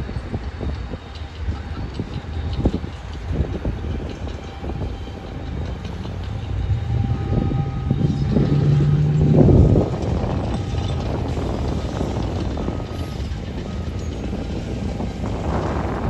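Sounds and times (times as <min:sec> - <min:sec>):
low train rumble: 0:00.0 - 0:16.0
train wheels clacking over rail joints: 0:00.0 - 0:16.0.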